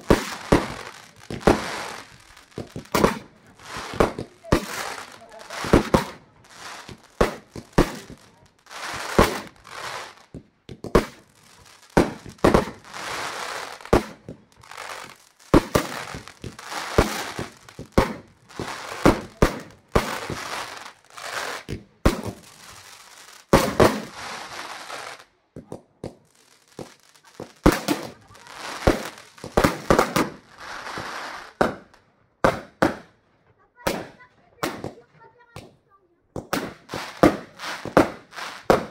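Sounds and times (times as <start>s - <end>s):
firework bangs: 0.0s - 33.2s, 33.8s - 38.9s.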